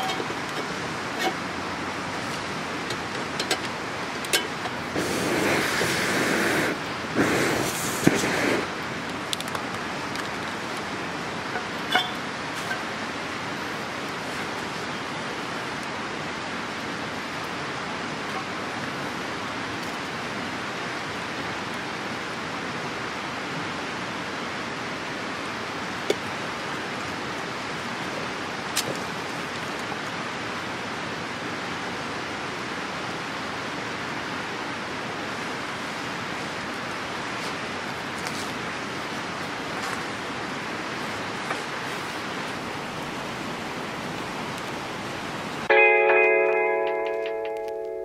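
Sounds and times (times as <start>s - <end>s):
rushing outdoor noise: 0.0s - 48.0s.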